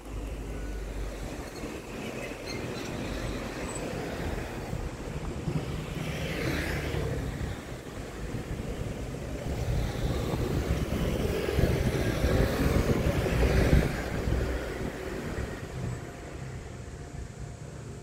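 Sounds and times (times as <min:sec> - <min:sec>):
wind noise on microphone: 0:00.0 - 0:17.7
electric train rumble: 0:00.0 - 0:18.0.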